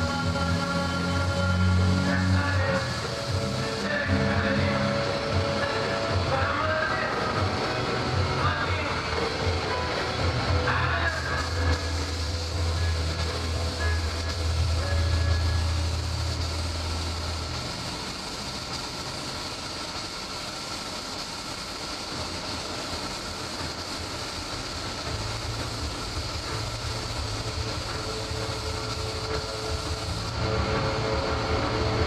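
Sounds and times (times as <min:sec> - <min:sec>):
low machine hum: 0:00.0 - 0:20.6, 0:21.8 - 0:32.0
spray gun hissing: 0:00.0 - 0:32.0.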